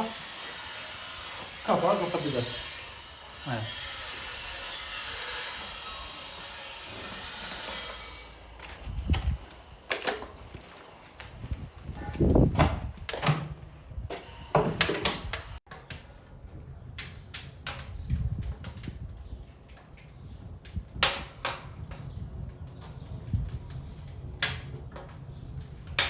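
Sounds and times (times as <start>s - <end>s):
wood fire crackling and popping: 0.3s - 13.3s, 14.8s - 26.0s.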